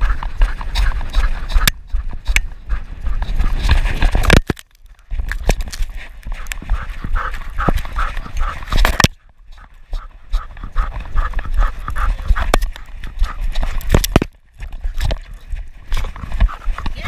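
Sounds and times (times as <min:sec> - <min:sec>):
dog breathing while running: 0:00.0 - 0:04.4, 0:05.0 - 0:17.0.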